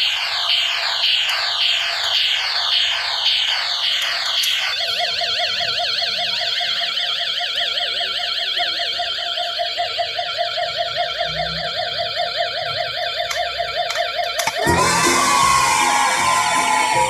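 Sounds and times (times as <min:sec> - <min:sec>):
toy pistol warbling siren tone: 0:00.0 - 0:17.0.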